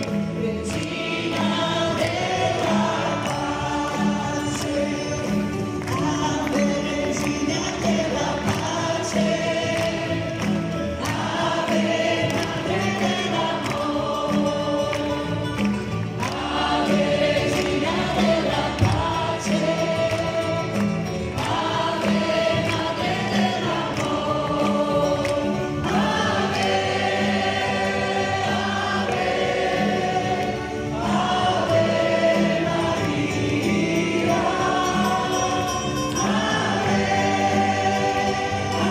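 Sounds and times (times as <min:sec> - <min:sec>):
congregation singing a hymn: 0:00.0 - 0:38.9
keyboard accompaniment: 0:00.0 - 0:38.9.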